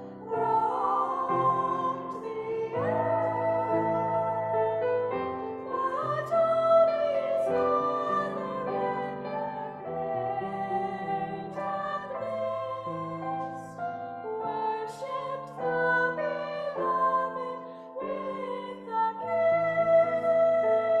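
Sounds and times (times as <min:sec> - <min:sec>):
girls singing in harmony: 0:00.0 - 0:21.0.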